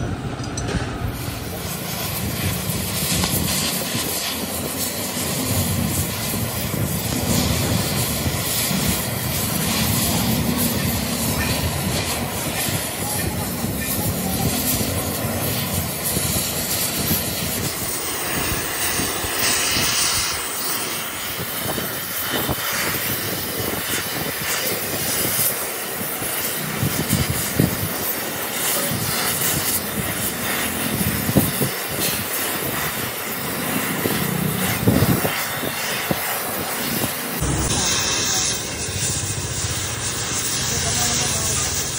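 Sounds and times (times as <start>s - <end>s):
welding torch flame hissing: 0.0s - 41.9s
sharp crackles: 1.2s - 41.9s.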